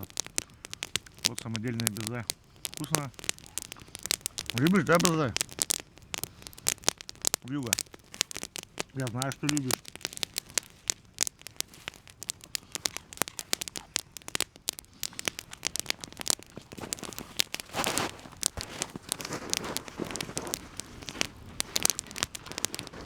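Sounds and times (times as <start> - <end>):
campfire crackling and popping: 0.0 - 23.0
rustling: 0.0 - 23.0.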